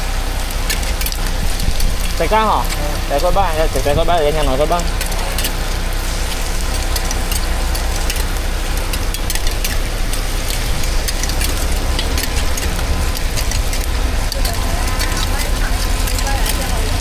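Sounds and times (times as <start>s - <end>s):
griddle crackling and clicking: 0.0s - 17.0s
steady low rumble: 0.0s - 17.0s.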